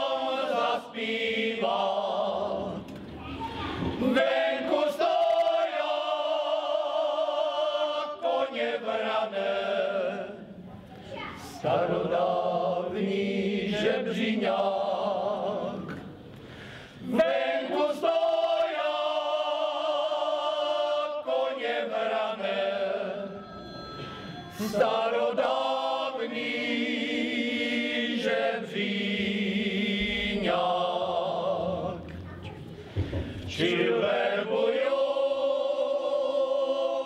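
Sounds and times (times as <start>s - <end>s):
male choir singing unaccompanied: 0.0s - 3.0s, 4.0s - 10.6s, 11.6s - 16.2s, 16.9s - 23.5s, 24.6s - 32.1s, 32.9s - 37.0s.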